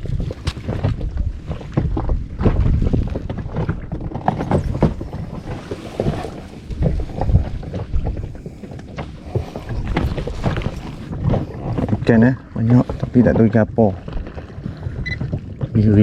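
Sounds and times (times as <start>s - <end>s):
water slapping against boat: 0.0s - 16.0s
wind buffeting microphone: 0.0s - 16.0s.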